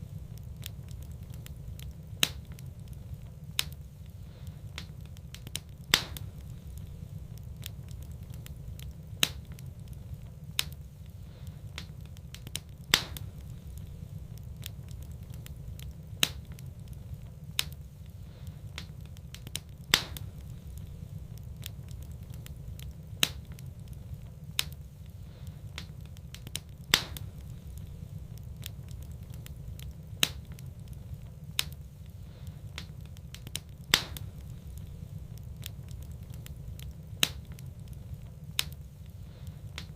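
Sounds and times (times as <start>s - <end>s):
fireplace fire rumbling: 0.0s - 39.9s
wood fire crackling and popping: 0.0s - 39.9s.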